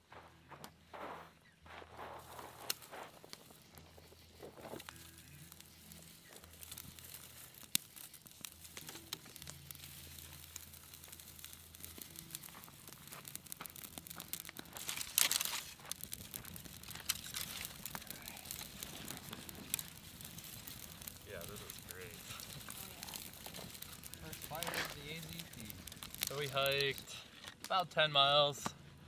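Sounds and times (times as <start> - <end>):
campfire crackling and snapping: 0.2 - 29.0.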